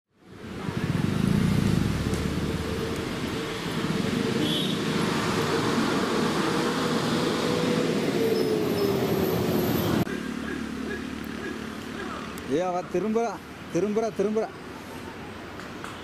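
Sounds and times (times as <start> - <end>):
engine humming: 0.2 - 13.8.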